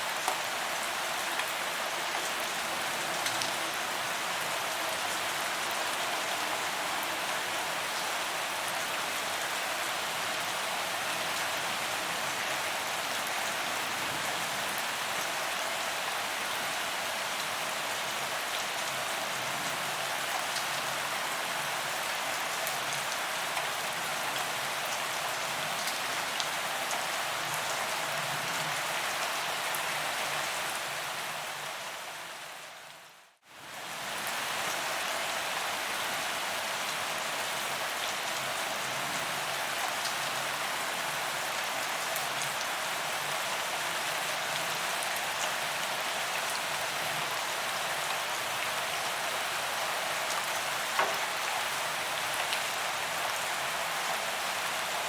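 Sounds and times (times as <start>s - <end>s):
rain falling on pavement: 0.0s - 55.0s.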